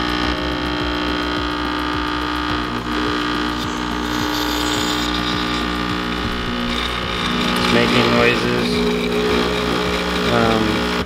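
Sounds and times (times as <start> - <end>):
espresso machine pump humming: 0.0 - 11.0.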